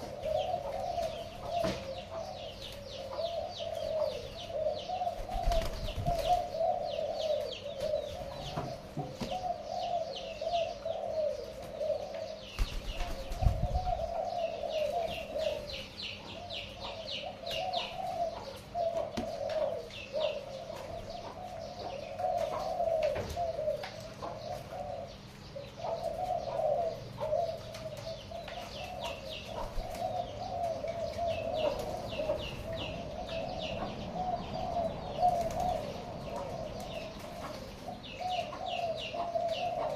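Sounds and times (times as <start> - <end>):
birds chirping trills: 0.0 - 39.9
pigeons cooing: 0.0 - 39.9.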